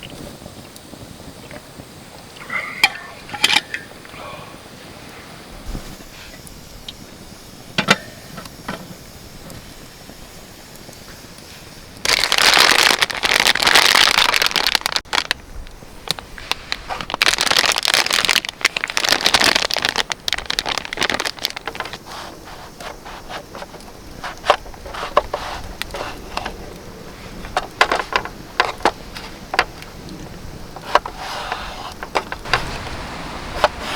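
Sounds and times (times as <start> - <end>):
campfire crackling and popping: 0.0 - 33.9
dense rustling hissing noise: 0.0 - 33.9.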